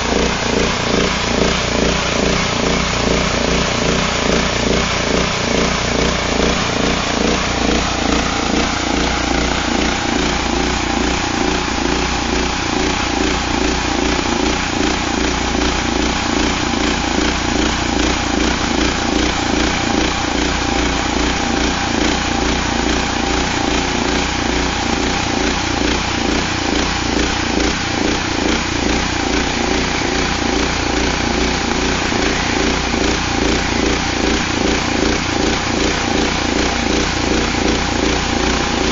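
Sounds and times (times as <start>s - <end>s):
band sawmill sawing log: 0.0s - 38.9s.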